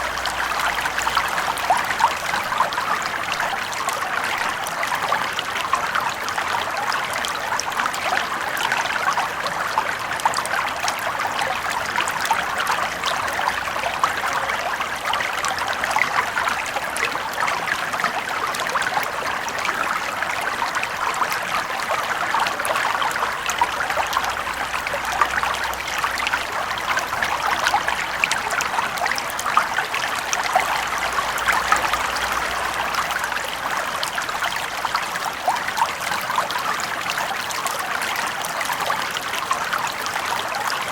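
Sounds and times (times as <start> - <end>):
brook flowing over stones: 0.0 - 40.9.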